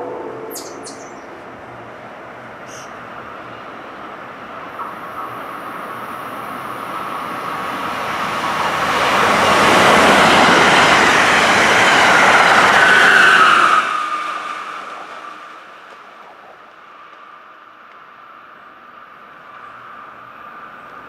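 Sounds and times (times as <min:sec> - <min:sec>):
passenger train passing: 0:00.0 - 0:21.0
train whine: 0:00.0 - 0:21.0.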